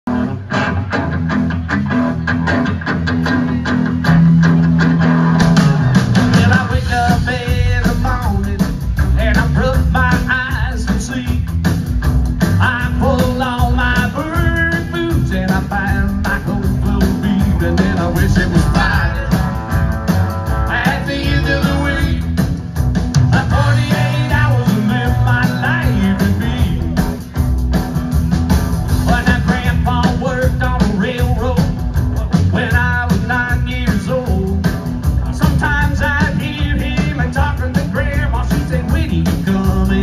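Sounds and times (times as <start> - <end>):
live rock band playing: 0.0 - 40.0
lead guitar line: 0.1 - 40.0.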